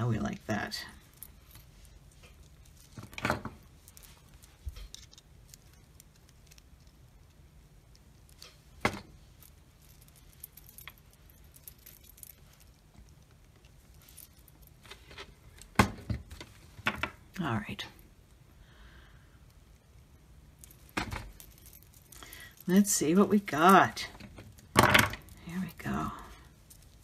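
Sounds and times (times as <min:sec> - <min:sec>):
beads clinking: 0:00.6 - 0:15.6, 0:20.4 - 0:27.0.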